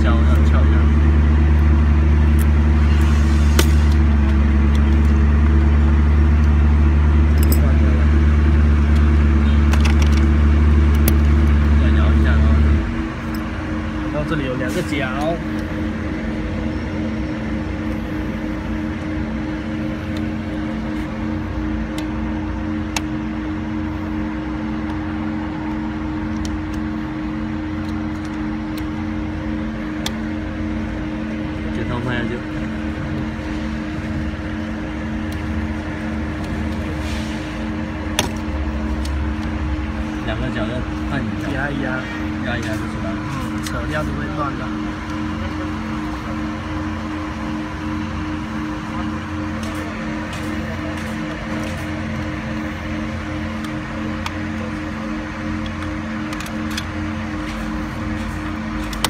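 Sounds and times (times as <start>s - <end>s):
car engine drone inside cabin: 0.0s - 59.0s
low mechanical hum: 0.0s - 59.0s.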